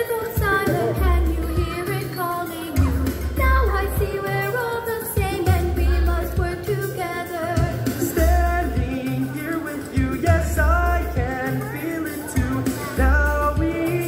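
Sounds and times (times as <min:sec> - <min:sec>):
voices singing over backing track: 0:00.0 - 0:14.0.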